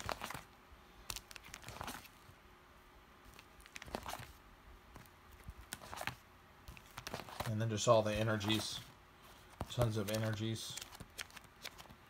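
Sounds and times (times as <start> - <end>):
plastic sleeve pages crinkling: 0.0 - 2.3, 3.2 - 12.0.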